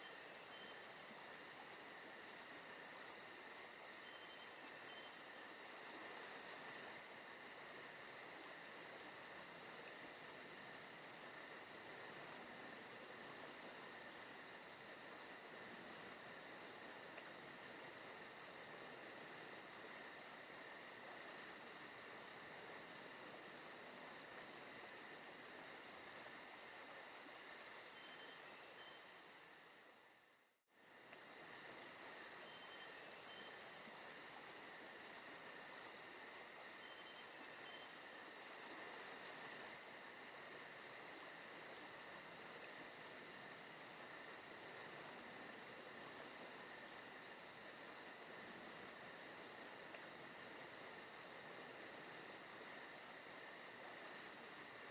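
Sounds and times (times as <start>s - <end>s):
crickets and insects trilling: 0.0s - 30.2s, 30.8s - 54.9s.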